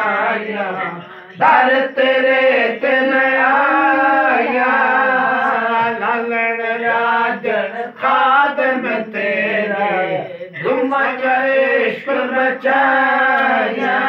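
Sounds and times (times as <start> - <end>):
devotional hymn singing: 0.0 - 14.0.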